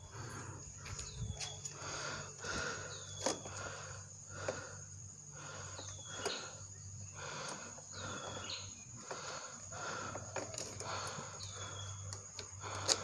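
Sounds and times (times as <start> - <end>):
soft breathy pulses: 0.0 - 13.0.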